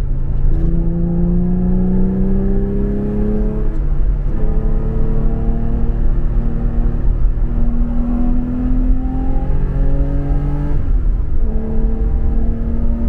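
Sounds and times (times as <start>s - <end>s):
car engine accelerating: 0.0s - 13.0s
heavy low wind: 0.0s - 13.0s
road rumble: 0.0s - 13.0s.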